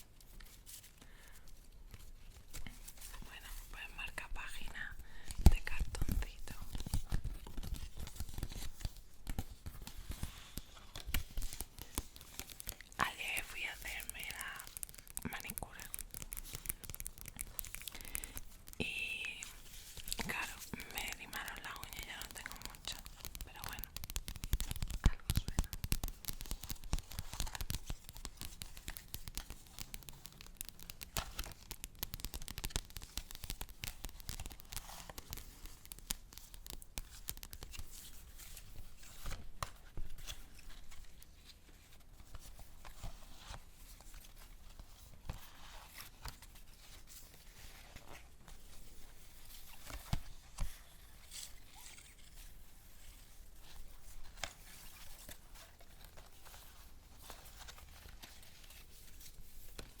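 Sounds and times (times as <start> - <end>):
paper crinkling and tearing: 6.6 - 18.8, 19.4 - 60.0.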